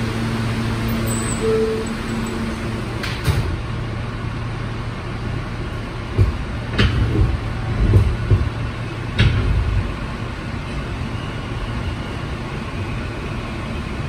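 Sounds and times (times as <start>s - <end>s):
subway car rumble: 0.0s - 14.0s.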